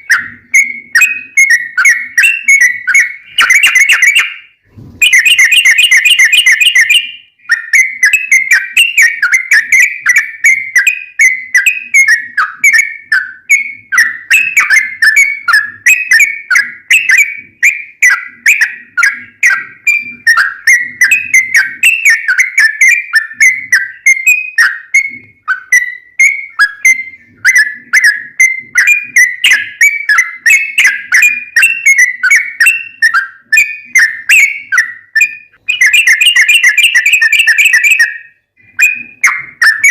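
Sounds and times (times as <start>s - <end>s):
bird singing rapid whistled notes: 0.0s - 39.9s.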